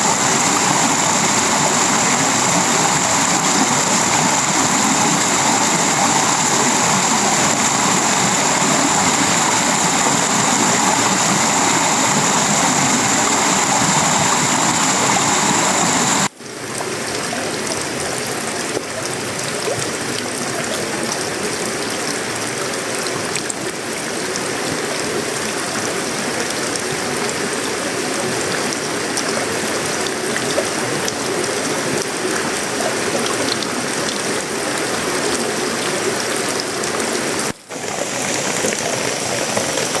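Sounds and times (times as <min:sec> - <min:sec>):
rain on a metal roof: 0:00.0 - 0:40.0.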